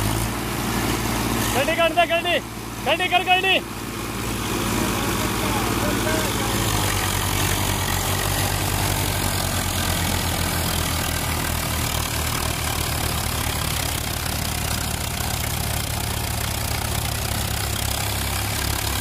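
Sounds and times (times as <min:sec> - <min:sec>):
tractor engines under load: 0:00.0 - 0:19.0.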